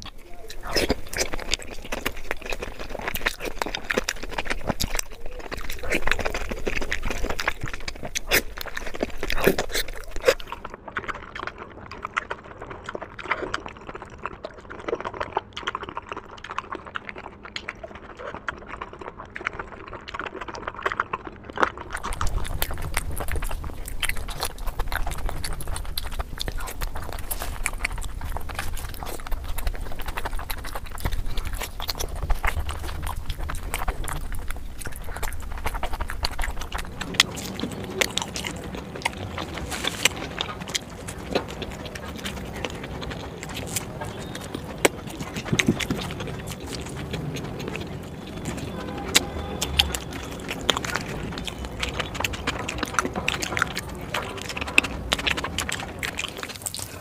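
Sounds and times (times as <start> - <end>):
mouth clicks: 0.0 - 13.9, 21.1 - 57.0
lip smacks: 0.0 - 57.0
wet chewing: 0.0 - 57.0.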